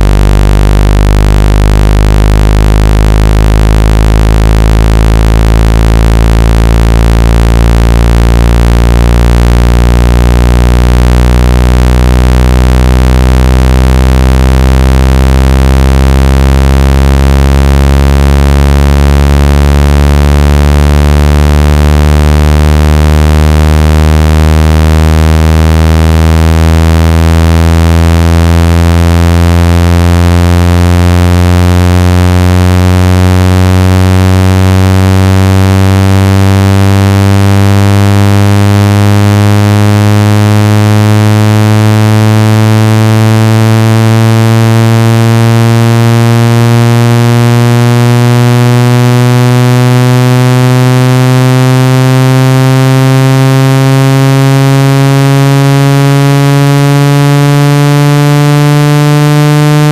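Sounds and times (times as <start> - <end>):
low buzzy rising tone: 0.0 - 59.9.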